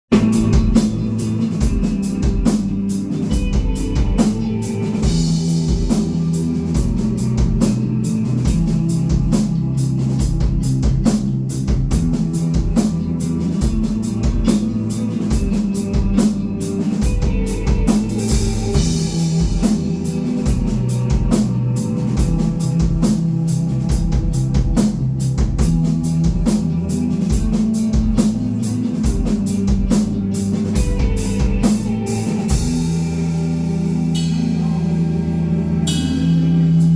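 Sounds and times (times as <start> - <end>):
bass: 0.0 - 36.9
drum kit beat: 0.0 - 36.9
guitar: 0.0 - 36.9.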